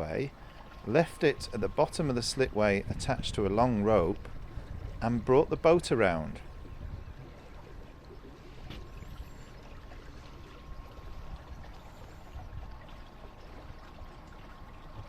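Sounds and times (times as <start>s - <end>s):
faint steady hum: 0.0s - 15.0s
water lapping against boat hull: 0.0s - 15.0s.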